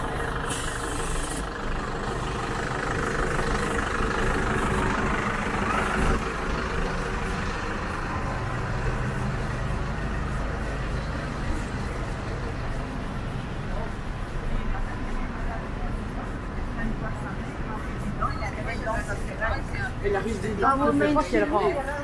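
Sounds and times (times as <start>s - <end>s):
city street noise: 0.0s - 22.0s
large vehicle engine idling: 0.0s - 22.0s.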